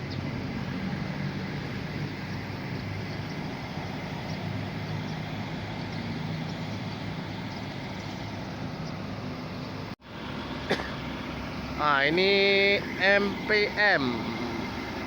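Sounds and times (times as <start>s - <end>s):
busy bus terminal noise: 0.0s - 15.0s
coach diesel engine humming: 0.0s - 15.0s.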